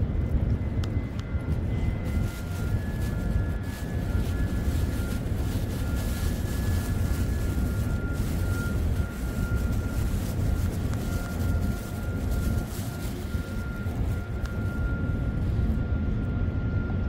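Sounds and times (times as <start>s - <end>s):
faint thin whine: 0.0s - 17.0s.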